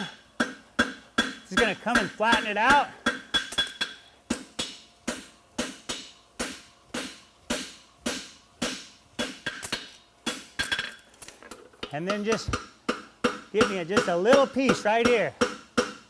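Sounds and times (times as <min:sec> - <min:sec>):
hammer striking horseshoe on anvil: 0:00.0 - 0:11.0, 0:11.8 - 0:16.0.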